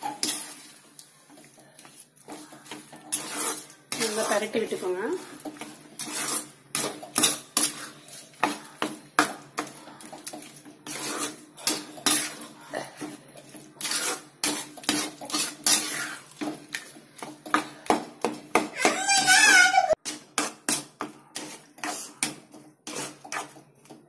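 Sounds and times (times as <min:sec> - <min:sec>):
spatula scraping metal pan: 0:00.0 - 0:24.0.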